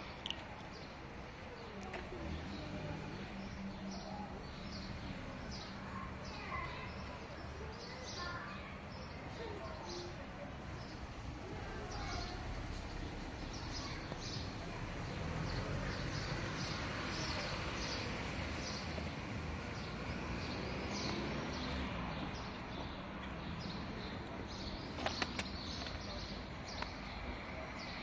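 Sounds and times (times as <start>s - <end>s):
outdoor background noise: 0.0s - 28.0s
small birds chirping: 0.0s - 28.0s.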